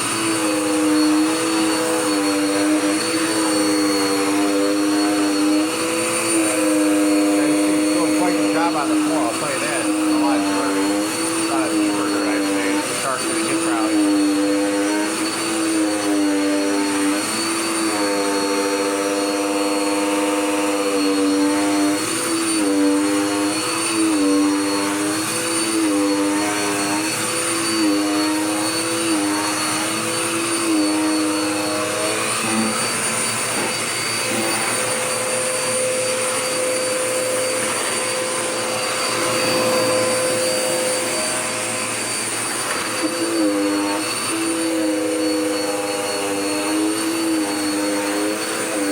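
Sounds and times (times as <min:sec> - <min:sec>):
vacuum cleaner motor hum: 0:00.0 - 0:48.9.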